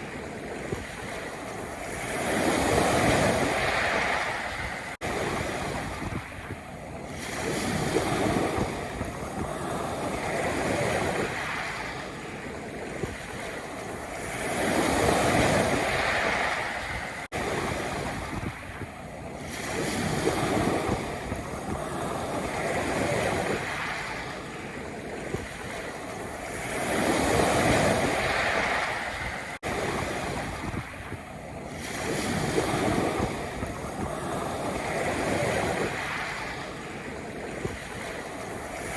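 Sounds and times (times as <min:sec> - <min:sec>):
waves breaking on pebble beach: 0:00.0 - 0:38.9.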